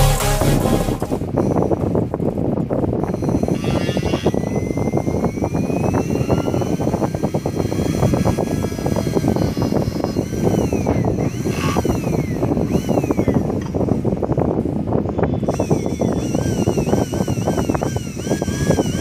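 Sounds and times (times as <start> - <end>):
electric motor whining at high speed: 0.0 - 19.0.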